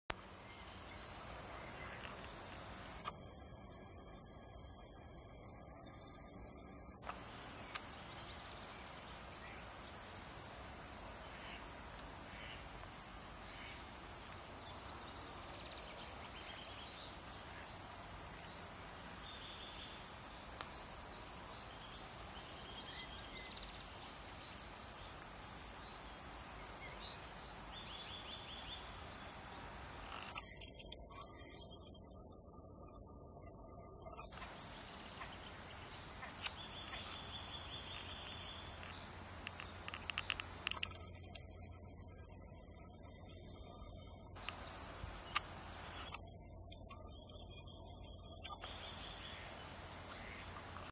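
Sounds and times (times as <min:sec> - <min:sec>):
songbirds singing: 0:00.1 - 0:50.9
steady background noise: 0:07.0 - 0:31.3, 0:34.3 - 0:50.9.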